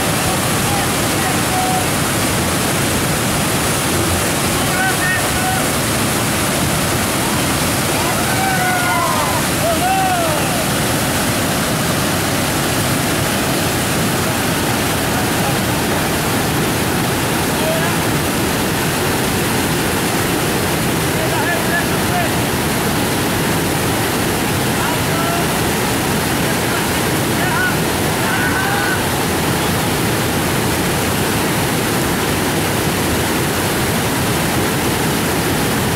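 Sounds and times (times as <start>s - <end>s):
river rapids rushing: 0.0s - 35.9s.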